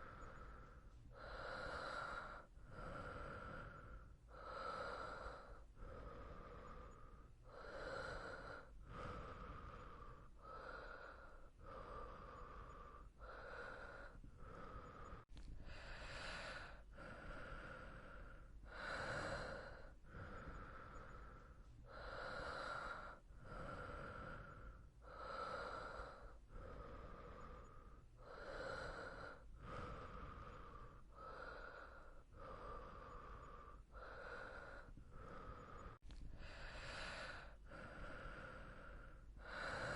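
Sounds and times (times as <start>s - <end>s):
person breathing quietly: 0.0s - 39.9s.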